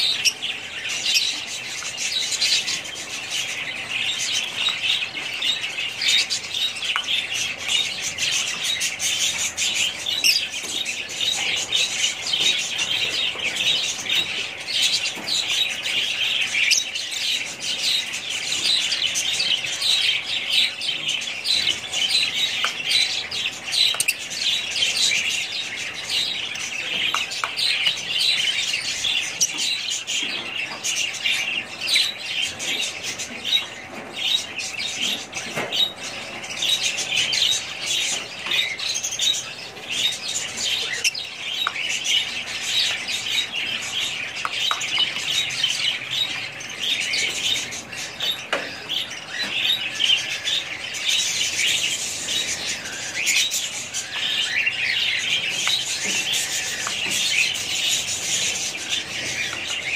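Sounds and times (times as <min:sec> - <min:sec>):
lovebirds chirping and chattering: 0:00.0 - 0:59.9.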